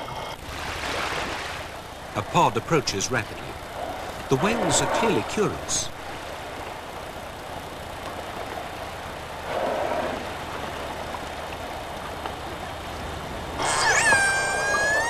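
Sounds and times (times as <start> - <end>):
boat motor idling: 0.0 - 15.0.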